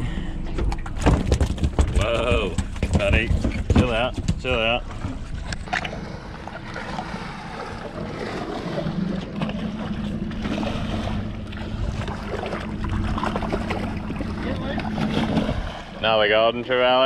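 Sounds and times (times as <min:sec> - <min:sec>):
steady low hum: 0:00.0 - 0:17.0
water around a boat: 0:00.0 - 0:17.0
wind: 0:00.0 - 0:17.0.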